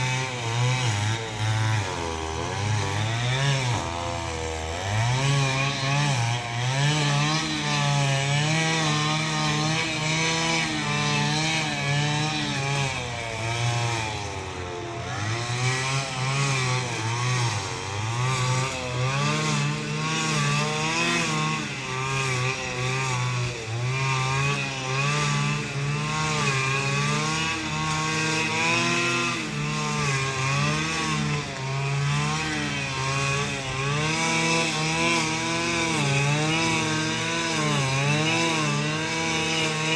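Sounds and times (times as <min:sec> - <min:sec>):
two-stroke brush cutter engine: 0:00.0 - 0:39.9.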